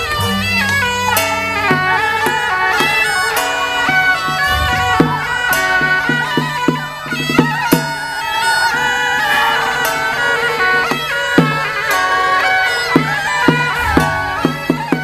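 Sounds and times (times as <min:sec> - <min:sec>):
sharp percussion strokes: 0:00.0 - 0:15.0
shawm playing a melody: 0:00.0 - 0:15.0.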